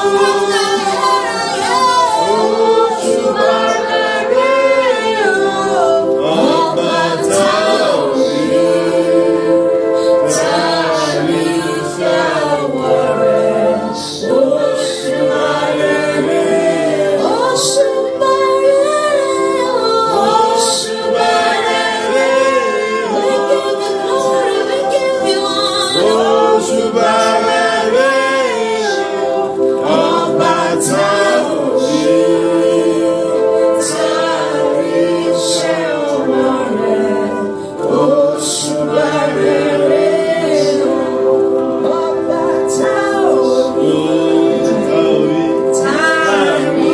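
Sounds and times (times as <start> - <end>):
group singing slow song: 0.0 - 46.9.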